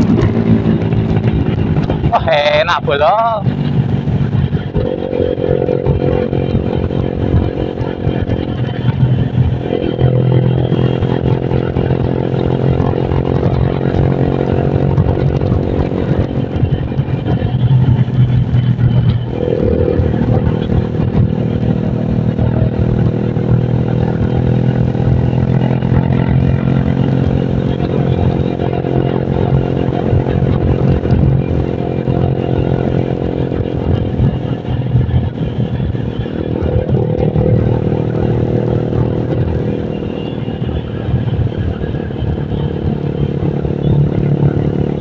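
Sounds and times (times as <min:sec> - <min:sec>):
scooter engine running: 0:00.0 - 0:45.0.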